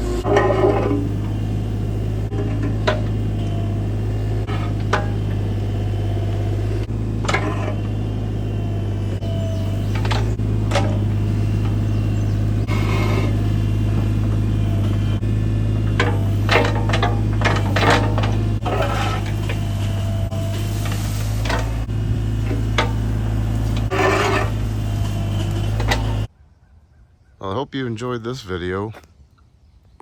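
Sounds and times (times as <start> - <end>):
excavator diesel engine running: 0.0 - 26.3
knocks and scraping: 0.0 - 26.3.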